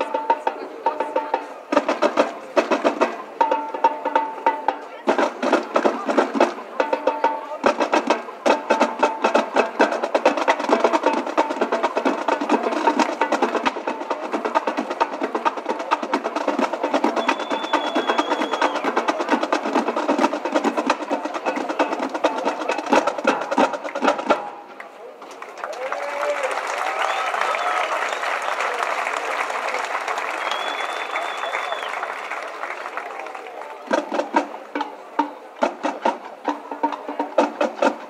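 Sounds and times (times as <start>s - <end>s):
snare drum rolls: 1.1s - 24.7s, 25.3s - 33.2s, 33.8s - 38.0s.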